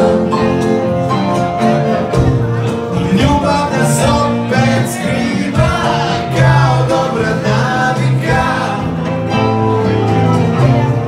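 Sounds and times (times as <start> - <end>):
bass guitar: 0.0 - 11.0
drums: 0.0 - 11.0
electric guitars: 0.0 - 11.0.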